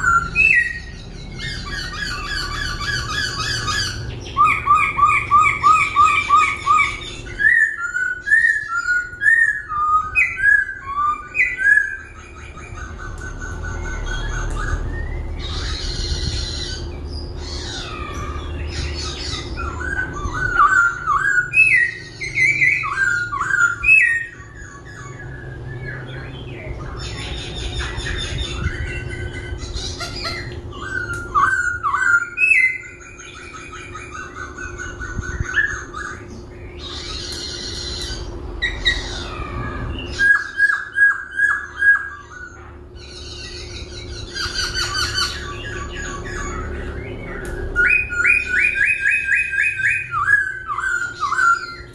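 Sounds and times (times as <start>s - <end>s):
bird singing and whistling: 0.0s - 51.9s.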